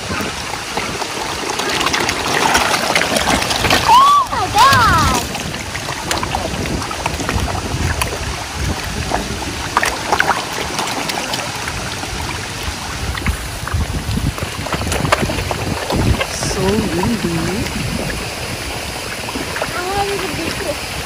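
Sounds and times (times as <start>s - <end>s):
fish splashing and gulping: 0.0s - 21.0s
wind buffeting microphone: 0.0s - 21.0s.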